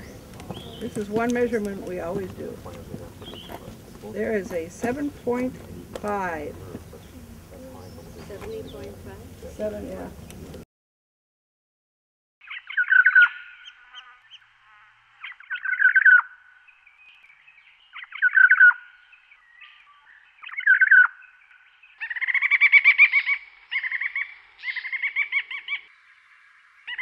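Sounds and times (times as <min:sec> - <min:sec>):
songbird singing: 0:00.0 - 0:10.6, 0:12.4 - 0:27.0.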